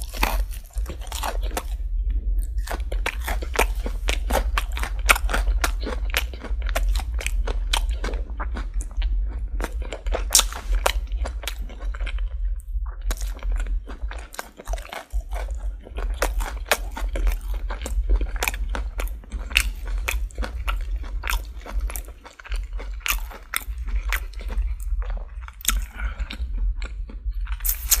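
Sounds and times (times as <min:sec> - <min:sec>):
crunchy chewing of fried chicken: 0:00.0 - 0:28.0
low hum: 0:00.0 - 0:28.0.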